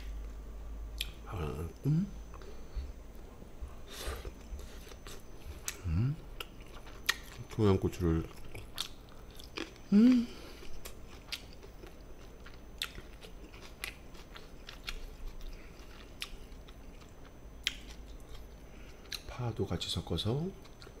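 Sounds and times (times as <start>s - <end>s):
short hummed sound: 0.0s - 19.4s
man chewing with wet smacks: 0.9s - 19.3s, 20.6s - 21.0s.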